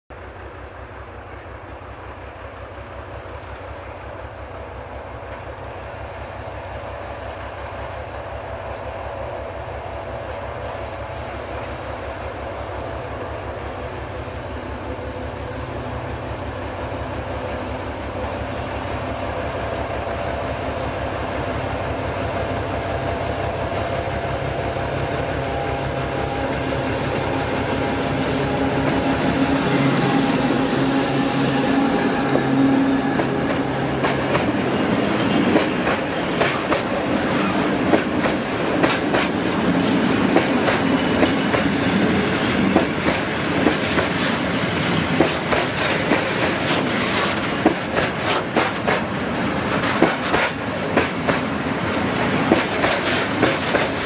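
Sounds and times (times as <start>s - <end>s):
diesel locomotive engine throbbing: 0.1s - 54.0s.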